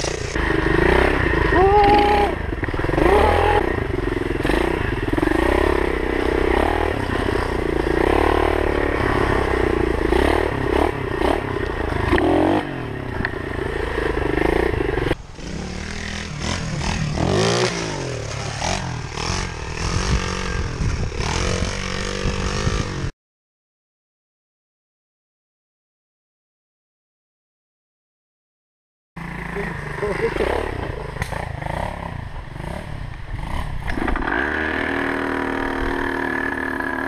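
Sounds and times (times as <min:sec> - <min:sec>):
motorbike engine revving: 0:00.0 - 0:23.1, 0:29.2 - 0:37.0.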